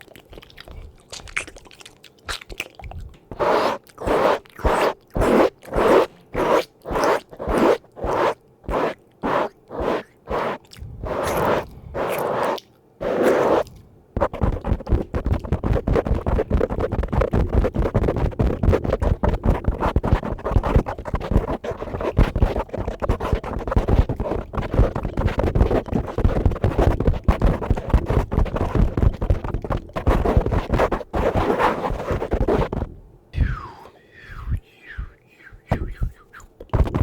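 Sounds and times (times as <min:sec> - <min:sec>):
brush scratching a microphone: 0:03.3 - 0:32.9, 0:35.6 - 0:37.0.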